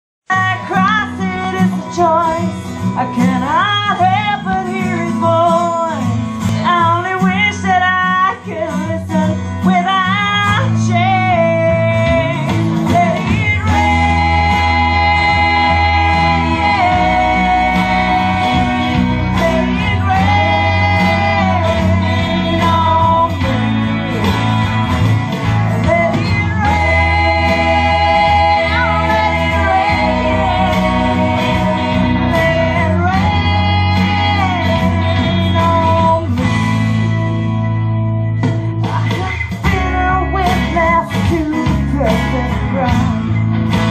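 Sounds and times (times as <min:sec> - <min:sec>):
guitar accompaniment: 0:00.2 - 0:43.9
woman singing country song: 0:00.3 - 0:43.9.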